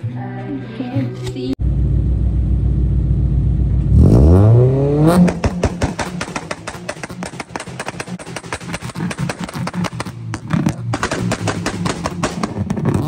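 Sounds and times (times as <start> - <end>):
car engine idling and revving: 1.6 - 13.0
sharp exhaust crackles: 1.6 - 13.0.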